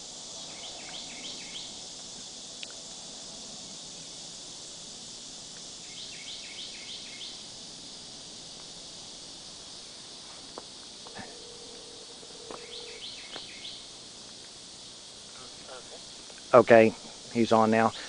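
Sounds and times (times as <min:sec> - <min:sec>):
high insect hiss: 0:00.0 - 0:18.0.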